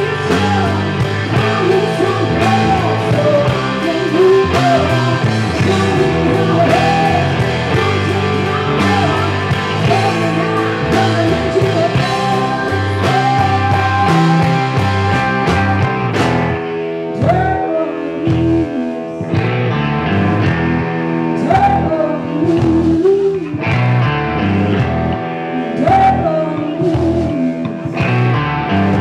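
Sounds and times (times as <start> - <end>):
blues-rock band playing: 0.0 - 29.0
electric guitar notes sliding up: 0.0 - 29.0.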